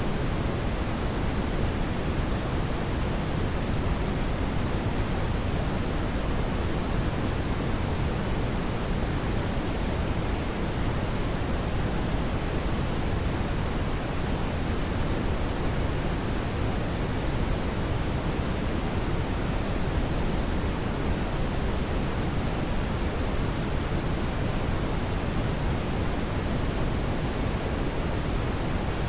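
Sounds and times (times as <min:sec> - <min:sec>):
deep brown noise hiss: 0:00.0 - 0:29.0.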